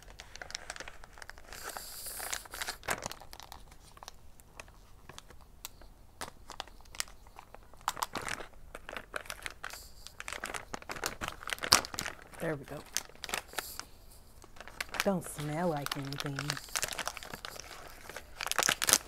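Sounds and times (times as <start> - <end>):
plastic wrapper crinkling and tearing: 0.0 - 19.0.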